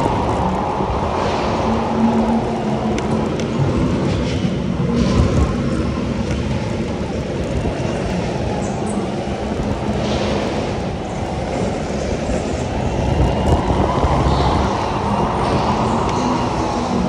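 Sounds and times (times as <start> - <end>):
go-kart chassis and tyres rumbling: 0.0 - 17.0.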